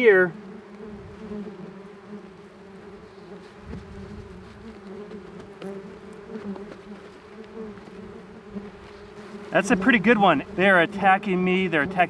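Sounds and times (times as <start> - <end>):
wasps buzzing: 0.0 - 12.0
faint ticks and scrapes: 0.4 - 10.8.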